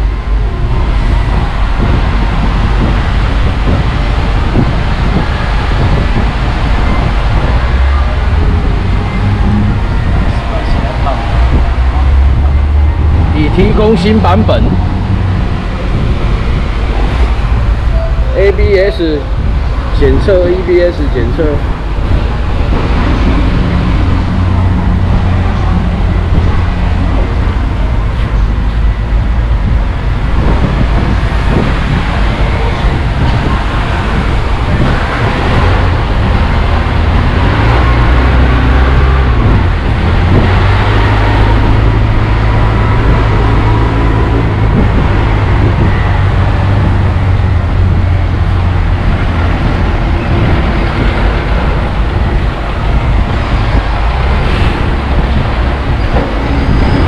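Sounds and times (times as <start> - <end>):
heavy truck engine rumbling: 0.0 - 57.0.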